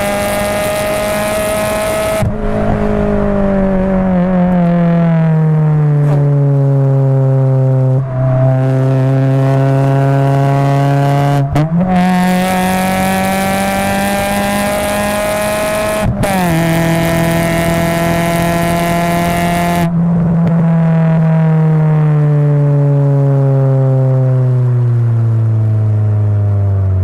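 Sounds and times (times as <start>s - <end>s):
car exhaust drone: 0.0s - 27.0s.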